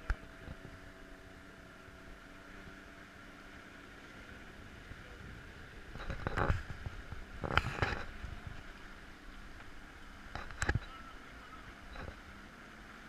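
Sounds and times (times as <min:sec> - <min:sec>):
water splashing against hull: 0:00.0 - 0:12.6
motorboat motor drone: 0:00.0 - 0:13.0.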